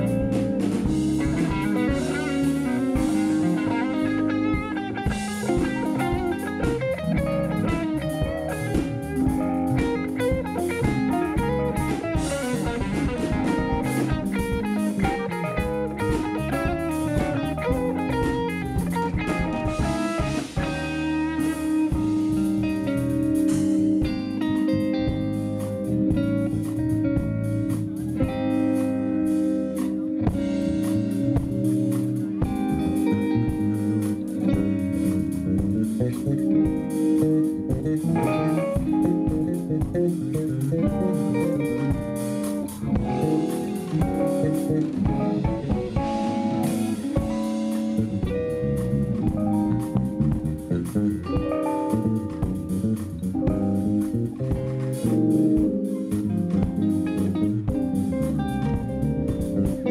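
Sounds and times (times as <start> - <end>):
bass guitar: 0.0 - 59.9
drum kit: 0.0 - 59.9
electric guitar: 0.0 - 59.9
keyboards: 0.0 - 59.9.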